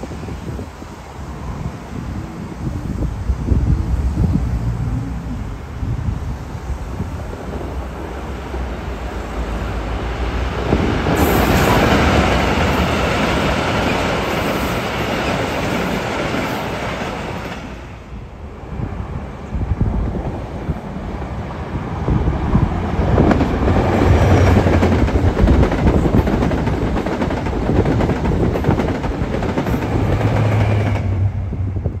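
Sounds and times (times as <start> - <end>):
diesel locomotive rumble: 0.0 - 14.9, 17.8 - 32.0
train engine drone: 0.0 - 32.0
wheels rushing on rails: 0.0 - 32.0
wind buffeting microphone: 0.0 - 32.0.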